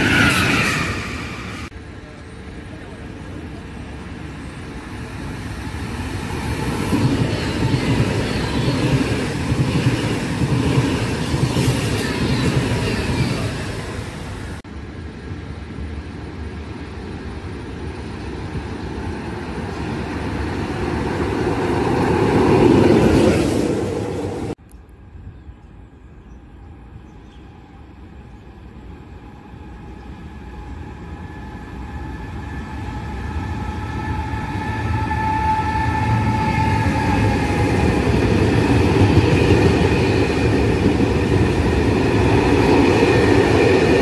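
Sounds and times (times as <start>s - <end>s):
electric train passing: 0.0s - 25.8s, 26.4s - 44.0s
electric locomotive passing: 0.0s - 44.0s.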